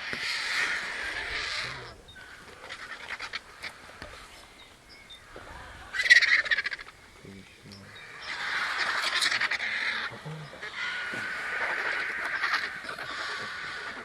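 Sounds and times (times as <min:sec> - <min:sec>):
soft scratchy sounds: 0:00.0 - 0:14.0
vultures hissing: 0:00.0 - 0:14.0.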